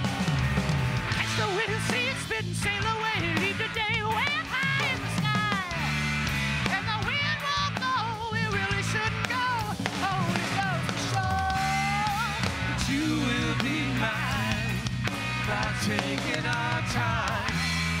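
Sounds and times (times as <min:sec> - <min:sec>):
bass guitar: 0:00.0 - 0:18.0
drums: 0:00.0 - 0:18.0
electric guitars: 0:00.0 - 0:18.0
lead vocal singing: 0:01.1 - 0:05.9, 0:06.6 - 0:18.0.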